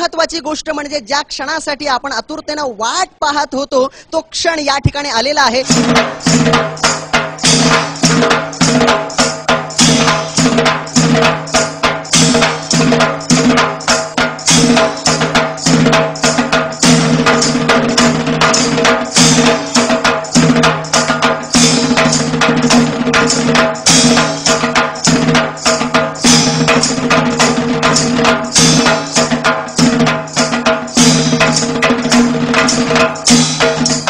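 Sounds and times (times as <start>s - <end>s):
fast dense percussion hits: 5.6s - 34.0s.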